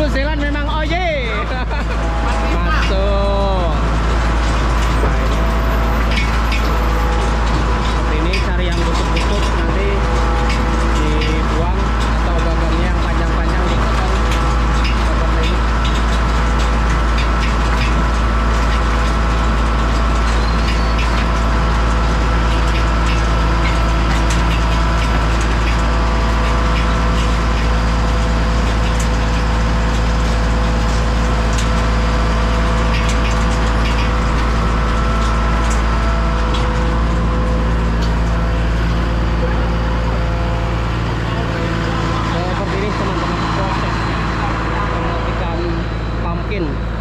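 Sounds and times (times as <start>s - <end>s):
tractor engine drone: 0.0s - 47.0s.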